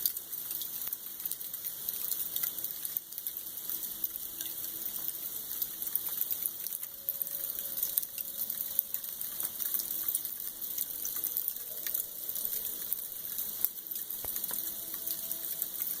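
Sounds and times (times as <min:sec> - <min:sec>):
freezing rain ticking: 0:00.0 - 0:16.0.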